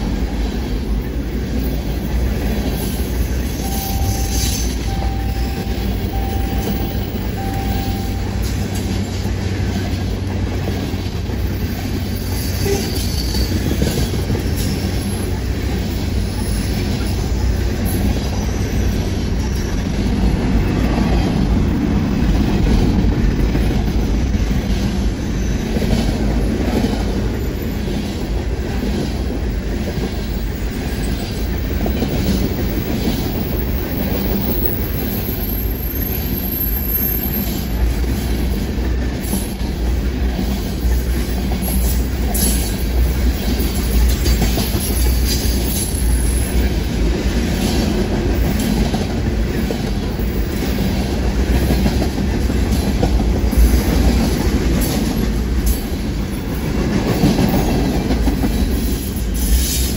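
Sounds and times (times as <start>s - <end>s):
train wheels rumbling on rails: 0.0s - 59.9s
wheels clicking over rail joints: 0.0s - 59.9s.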